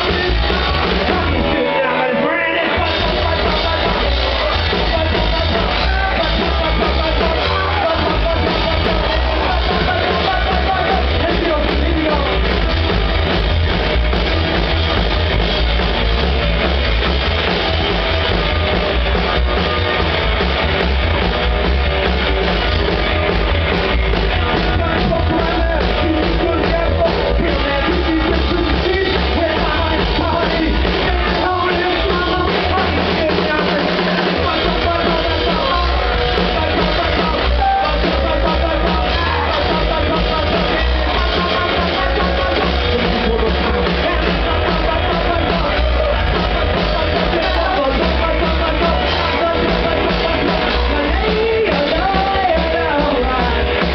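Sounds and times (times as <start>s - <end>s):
person singing: 0.0s - 13.4s, 22.8s - 53.9s
live band playing: 0.0s - 53.9s.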